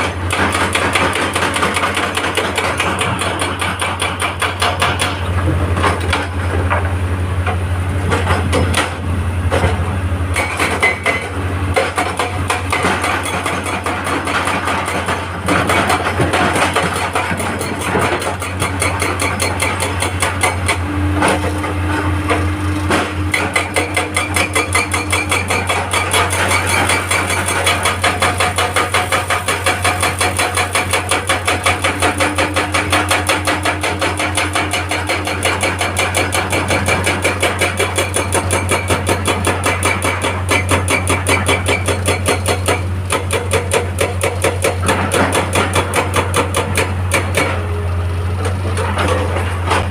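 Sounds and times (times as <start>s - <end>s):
diesel engine drone: 0.0s - 49.9s
hydraulic breaker hammering rock: 0.0s - 49.9s.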